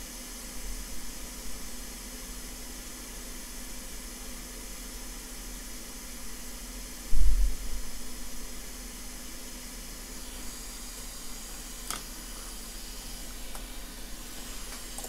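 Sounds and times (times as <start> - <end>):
hot air blower hissing: 0.0 - 15.0.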